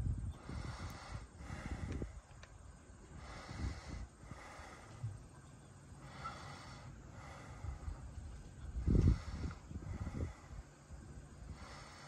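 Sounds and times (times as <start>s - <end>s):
wind buffeting microphone: 0.0s - 5.4s, 6.0s - 12.0s
faint steady hiss: 0.0s - 12.0s.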